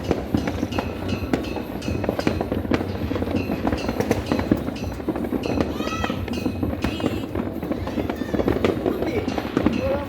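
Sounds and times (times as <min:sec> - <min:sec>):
fireworks crackling and banging: 0:00.0 - 0:10.0
fireworks whistling: 0:00.0 - 0:10.0.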